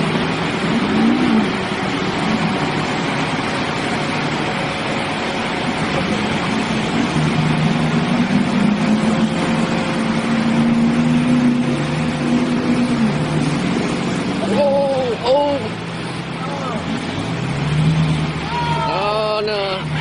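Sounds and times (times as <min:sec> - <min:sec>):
loud steady rushing noise: 0:00.0 - 0:20.0
truck engine running: 0:00.0 - 0:20.0.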